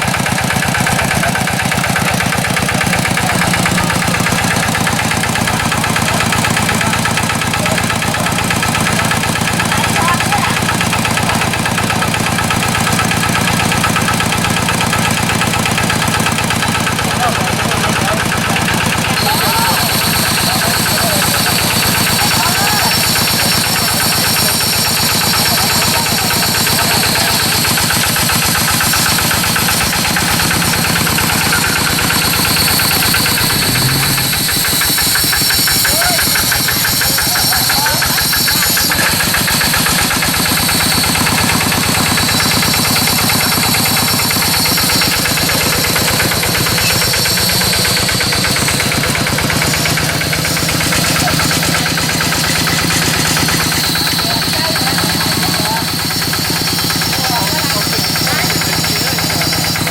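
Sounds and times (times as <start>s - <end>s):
engine running with regular knock: 0.0s - 59.9s.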